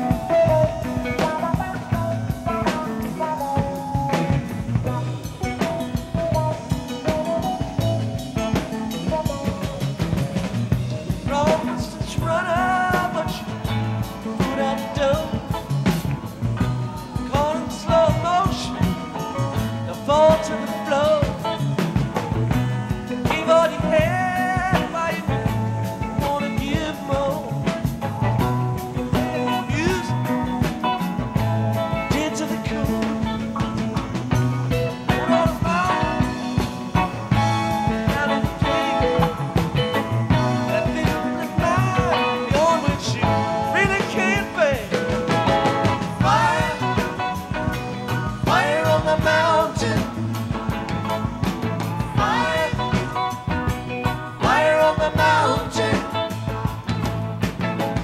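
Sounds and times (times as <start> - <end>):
rock song with steady beat: 0.0 - 58.0.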